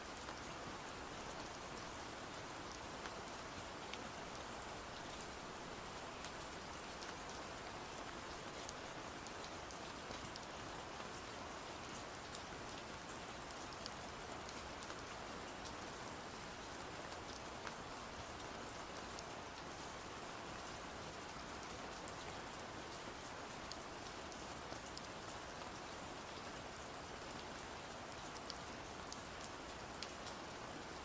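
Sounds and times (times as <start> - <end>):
steady rain hiss: 0.0 - 31.0.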